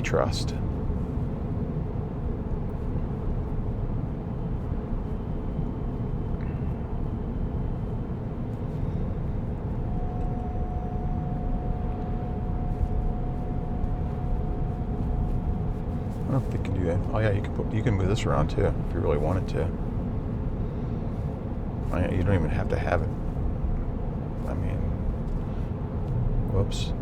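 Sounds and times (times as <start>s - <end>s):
faint steady tone: 0.0s - 27.0s
road and tyre noise: 0.0s - 27.0s.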